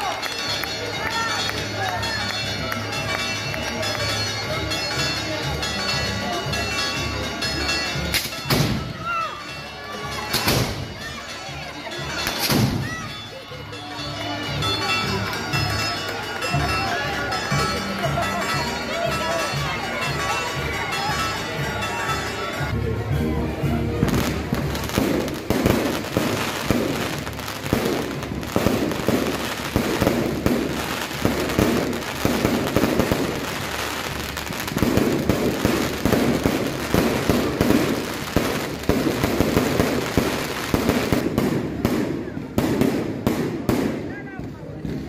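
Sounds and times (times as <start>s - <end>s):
fireworks bangs and crackling: 0.0s - 22.6s, 23.9s - 45.0s.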